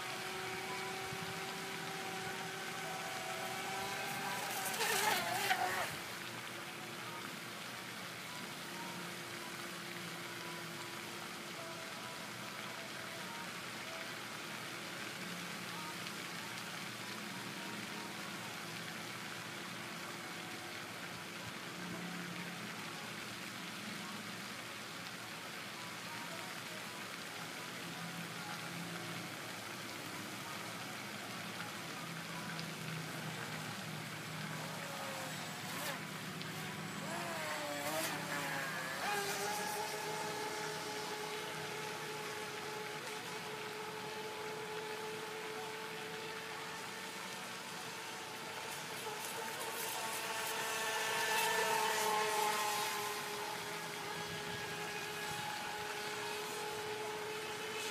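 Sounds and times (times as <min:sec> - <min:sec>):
fountain spray splashing on water: 0:00.0 - 0:57.9.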